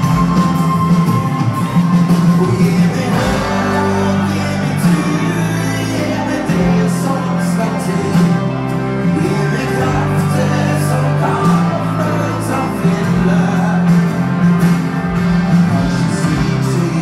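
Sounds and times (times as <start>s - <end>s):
live country-rock band: 0.0s - 17.0s
person singing: 0.0s - 17.0s.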